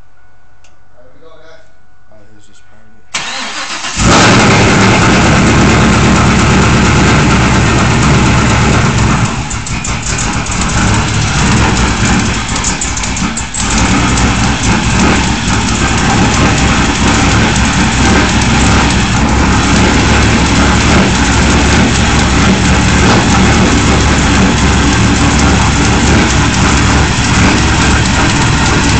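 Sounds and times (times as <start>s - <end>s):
engine idling loudly: 3.2s - 28.9s.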